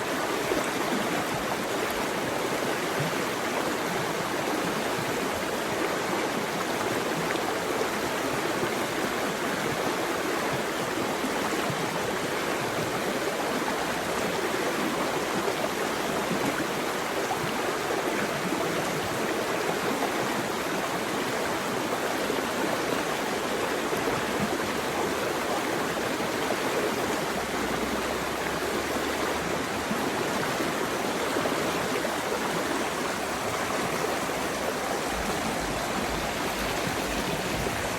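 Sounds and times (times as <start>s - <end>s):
water rushing: 0.0s - 37.9s.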